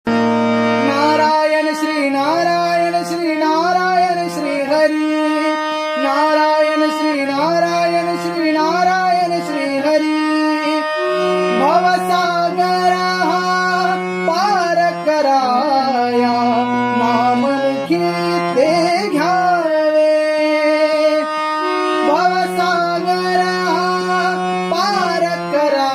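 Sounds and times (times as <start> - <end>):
harmonium tones: 0.0 - 25.9
person singing: 0.1 - 25.9
wordless gliding vocal melody: 0.2 - 25.9.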